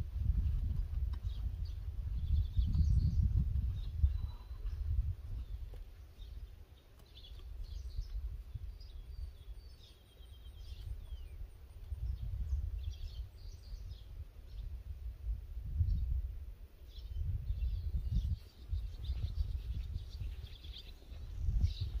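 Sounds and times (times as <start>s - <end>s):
songbirds chirping: 0.0s - 22.0s
wind rumble on microphone: 0.0s - 22.0s.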